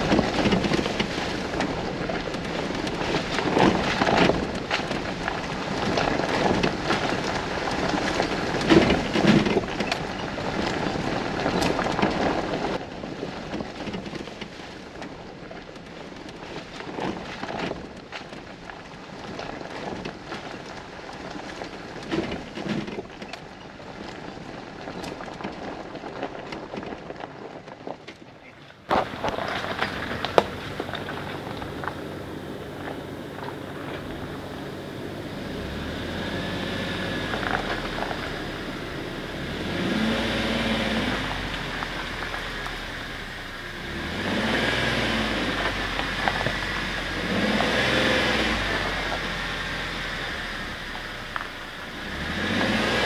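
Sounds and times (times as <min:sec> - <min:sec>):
tyres and engine rushing: 0:00.0 - 0:25.9, 0:28.0 - 0:53.0
vehicle knocks and rattles: 0:00.0 - 0:49.7.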